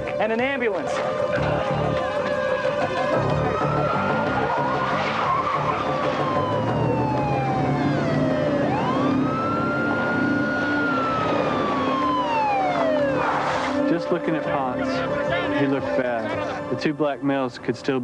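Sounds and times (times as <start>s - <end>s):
police siren wailing: 0.0s - 17.0s
car engines running: 0.8s - 16.4s.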